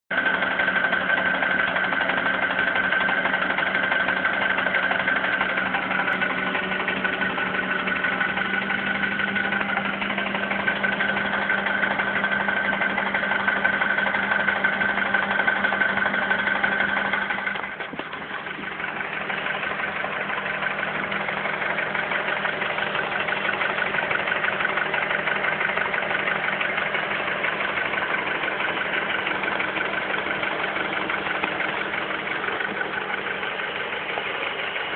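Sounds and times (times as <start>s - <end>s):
car engine idling with a knock: 0.1s - 34.9s.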